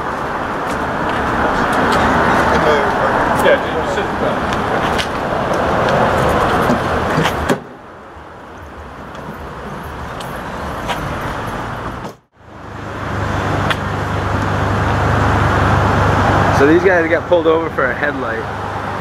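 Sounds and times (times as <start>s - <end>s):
car engines on a street: 0.0s - 19.0s.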